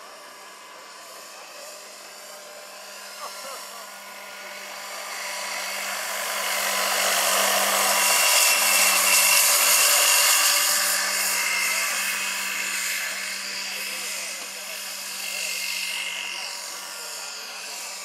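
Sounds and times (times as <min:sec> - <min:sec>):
model helicopter motor and rotor whine: 0:00.0 - 0:18.0.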